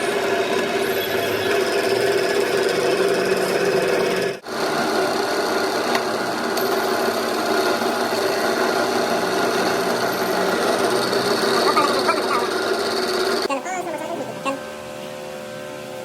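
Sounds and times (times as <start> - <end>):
power tool running: 0.0 - 16.0.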